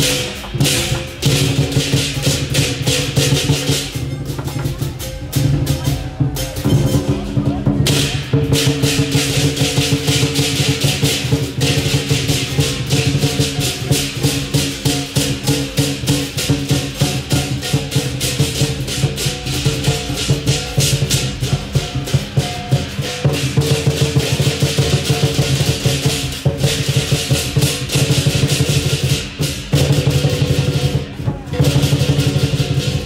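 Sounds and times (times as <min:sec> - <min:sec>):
cymbals crashing: 0:00.0 - 0:33.0
drum beating fast: 0:00.0 - 0:33.0.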